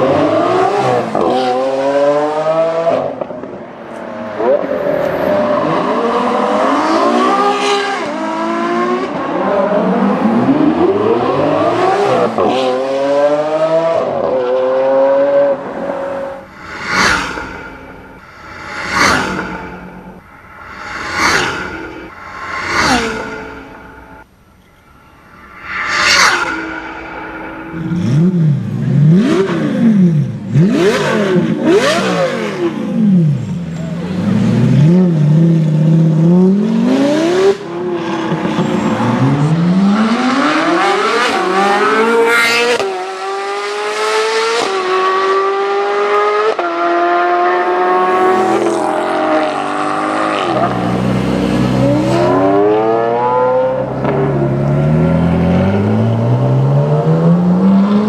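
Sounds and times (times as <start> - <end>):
car engine revving and accelerating: 0.0 - 24.2, 25.8 - 58.0.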